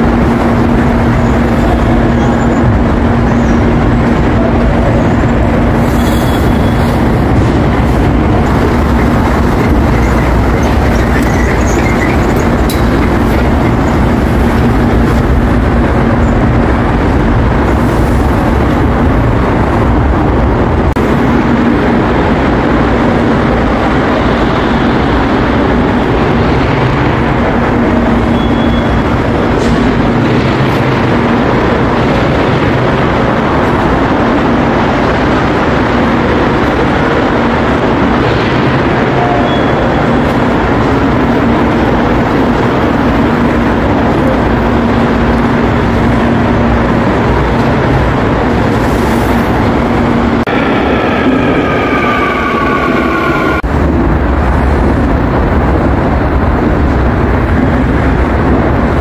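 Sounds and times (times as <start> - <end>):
subway train running: 0.0 - 59.0.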